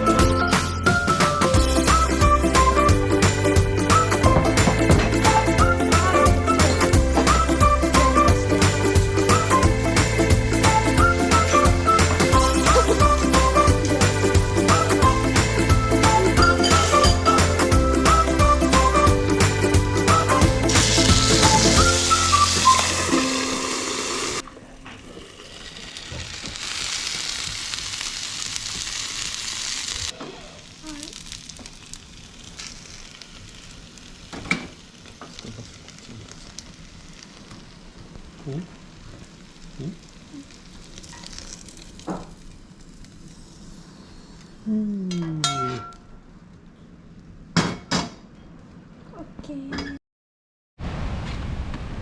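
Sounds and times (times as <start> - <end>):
food sizzling in a frying pan: 0.0 - 18.2, 18.8 - 44.4.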